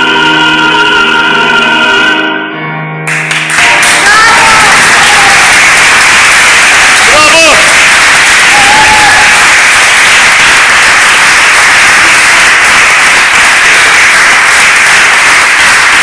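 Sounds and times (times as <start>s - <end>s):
audience applauding: 3.1s - 16.0s.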